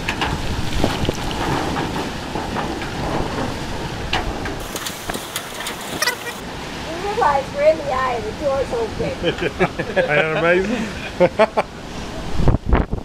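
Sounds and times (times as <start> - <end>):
driving rain: 0.0 - 13.0
hurricane wind: 0.0 - 13.0.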